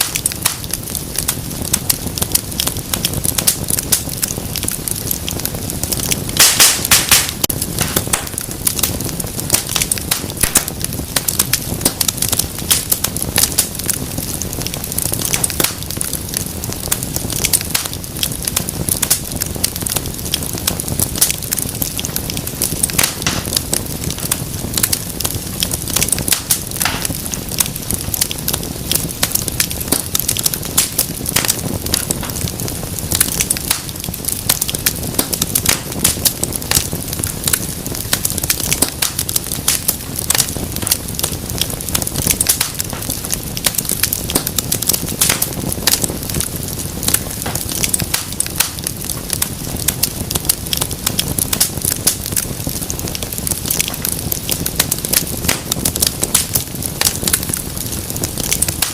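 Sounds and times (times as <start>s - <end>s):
fire popping and snapping: 0.0s - 58.9s
low rumble of flame: 0.0s - 58.9s
wood fire crackling: 0.0s - 58.9s.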